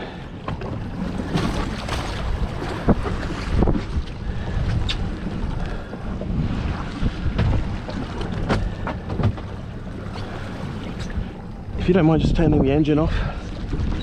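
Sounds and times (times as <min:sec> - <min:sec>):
outboard motor idling: 0:00.0 - 0:14.0
wind buffeting microphone: 0:00.8 - 0:14.0.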